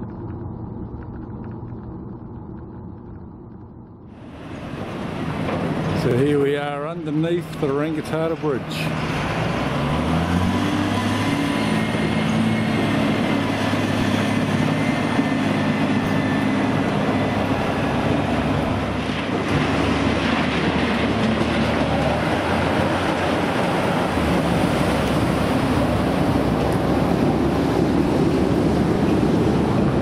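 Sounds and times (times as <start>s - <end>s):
dump truck engines rumbling: 4.4s - 30.0s.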